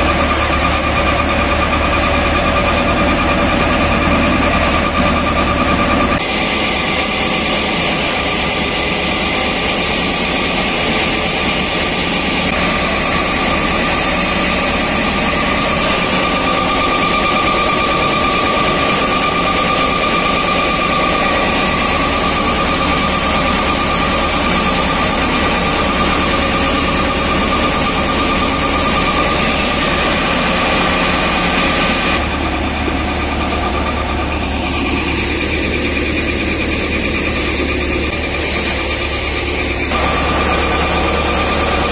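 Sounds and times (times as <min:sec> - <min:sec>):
threshing drum high whine: 0:00.0 - 0:41.9
threshing machine drone: 0:00.0 - 0:41.9.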